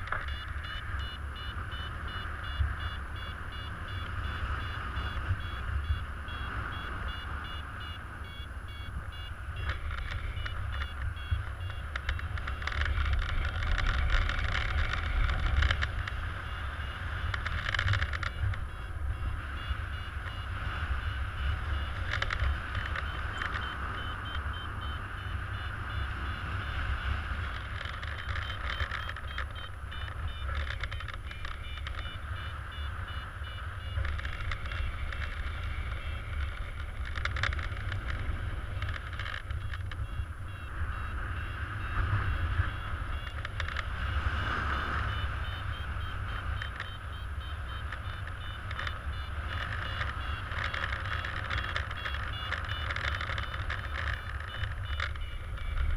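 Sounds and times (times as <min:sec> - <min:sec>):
variometer beeping: 0:00.0 - 0:55.9
wind on microphone: 0:00.0 - 0:55.9.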